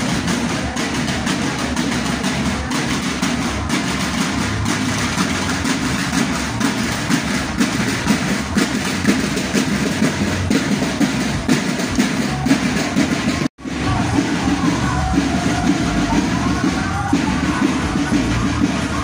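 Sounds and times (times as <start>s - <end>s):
marching snare drums: 0.0s - 19.0s.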